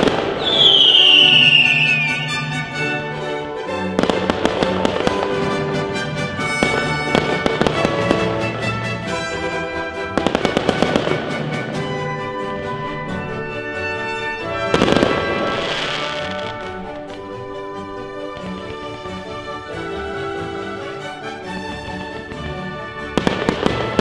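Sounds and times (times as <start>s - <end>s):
fireworks crackling and popping: 0.0s - 3.2s, 3.8s - 9.4s, 10.0s - 20.6s, 21.5s - 24.0s
music with sustained notes: 0.0s - 24.0s.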